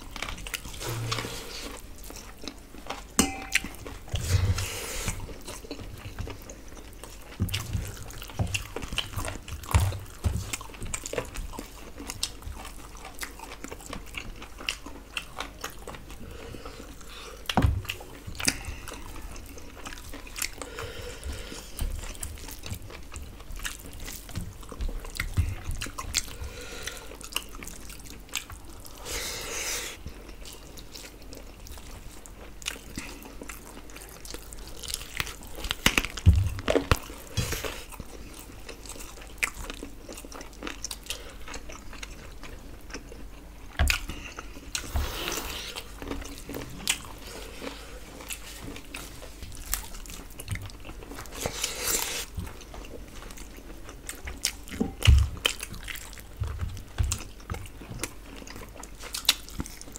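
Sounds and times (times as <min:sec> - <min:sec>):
people chewing and lip smacking: 0:00.0 - 0:59.9.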